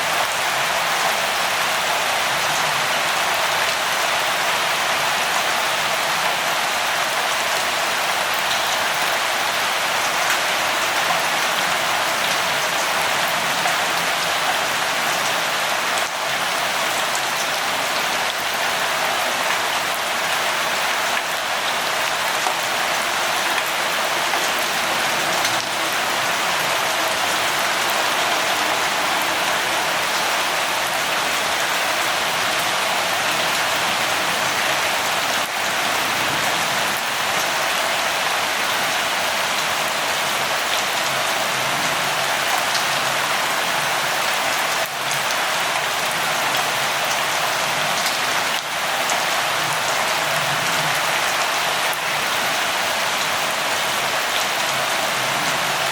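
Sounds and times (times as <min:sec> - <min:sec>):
light rain falling: 0:00.0 - 0:55.9.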